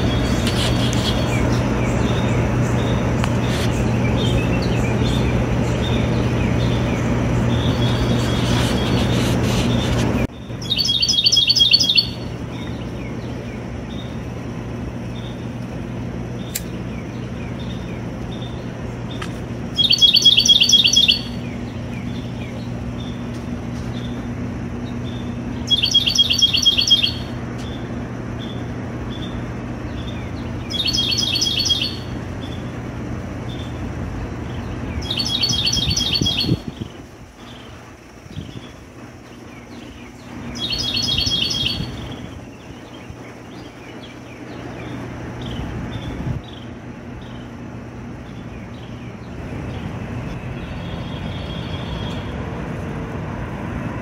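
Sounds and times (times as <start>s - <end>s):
distant traffic hum: 0.0s - 54.0s
songbird singing: 0.0s - 54.0s.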